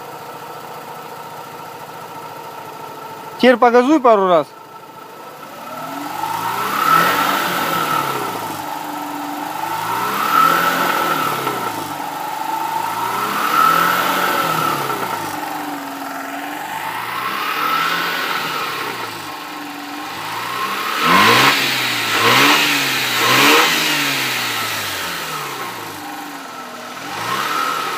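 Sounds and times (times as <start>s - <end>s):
rotary engine revving: 5.2s - 27.9s.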